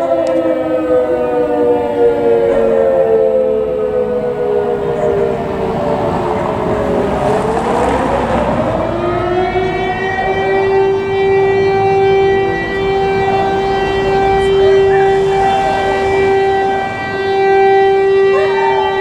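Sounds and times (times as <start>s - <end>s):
wailing siren: 0.0s - 19.0s.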